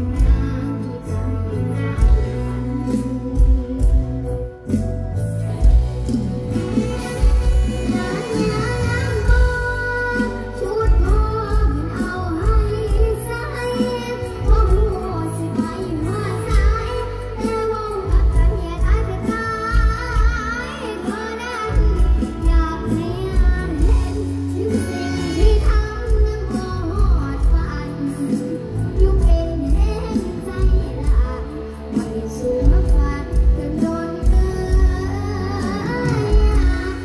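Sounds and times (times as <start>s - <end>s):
girl singing into a microphone: 0.0s - 4.7s, 6.5s - 37.0s.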